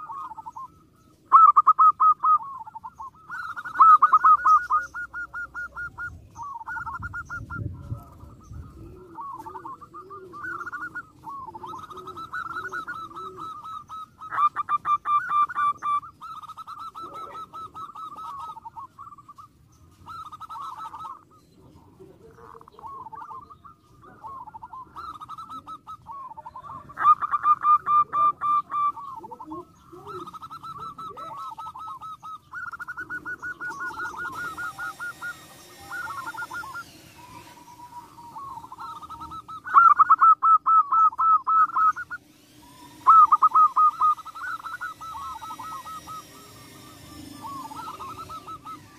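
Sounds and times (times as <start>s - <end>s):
doves cooing in staccato runs: 0.0s - 48.9s.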